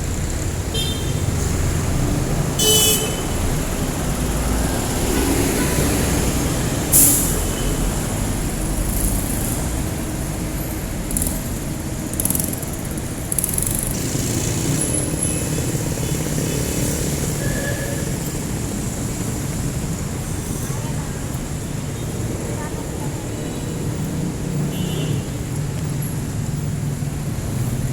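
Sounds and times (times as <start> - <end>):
engines rumbling in traffic: 0.0 - 27.9.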